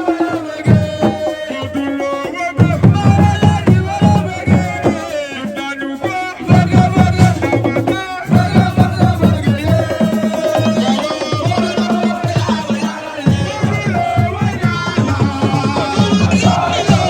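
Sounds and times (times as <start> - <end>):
music with fast drumming: 0.0 - 17.0.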